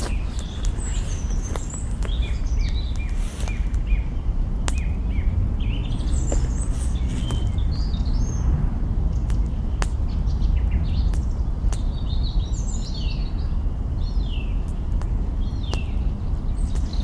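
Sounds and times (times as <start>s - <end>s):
campfire crackling and popping: 0.0s - 13.0s, 14.2s - 17.0s
small birds chirping: 0.0s - 17.0s
steady low rumble: 0.0s - 17.0s.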